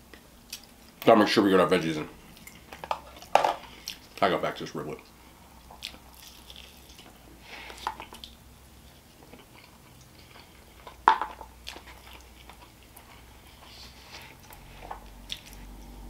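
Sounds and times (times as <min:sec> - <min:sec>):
wet chewing and smacking: 0:02.3 - 0:04.2, 0:05.0 - 0:16.0.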